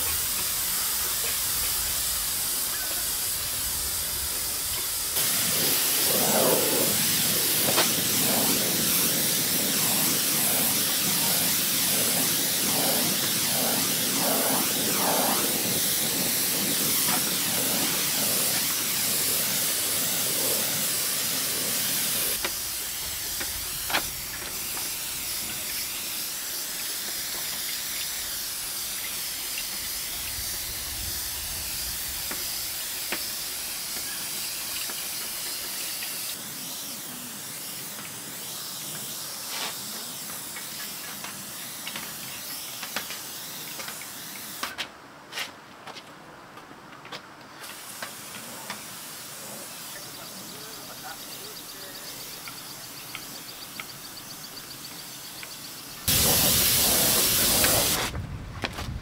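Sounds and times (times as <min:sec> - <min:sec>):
paint spray gun hissing: 0:00.0 - 0:44.8, 0:47.6 - 0:58.1.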